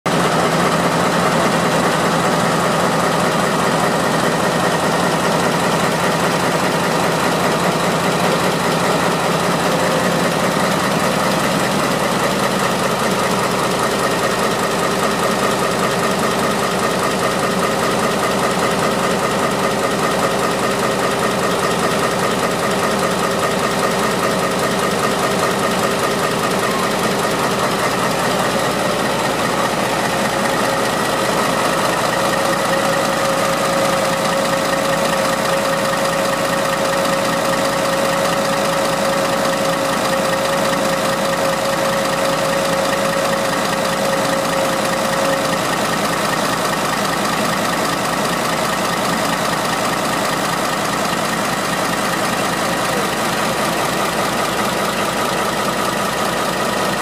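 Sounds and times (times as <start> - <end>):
diesel locomotive engine running: 0.1 - 57.0.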